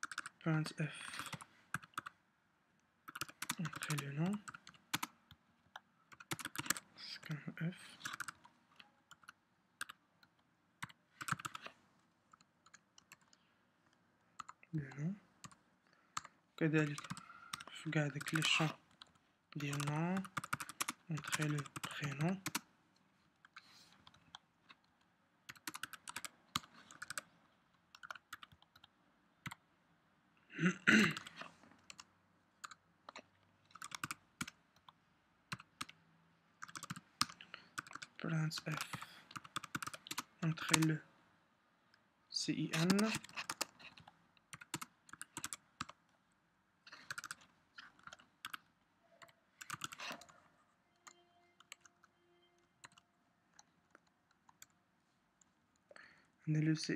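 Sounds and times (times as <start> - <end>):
faint keyboard typing: 0.0 - 2.2, 2.8 - 29.7, 30.6 - 41.0, 41.9 - 56.4.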